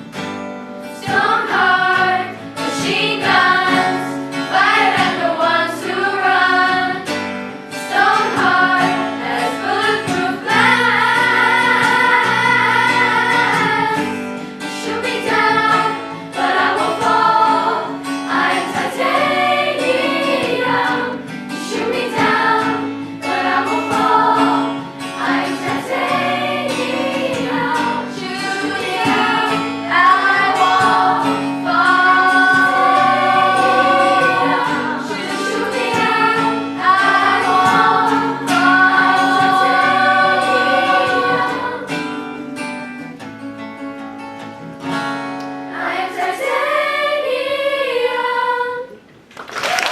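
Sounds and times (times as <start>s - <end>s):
choir singing: 1.0s - 42.3s, 45.7s - 49.1s.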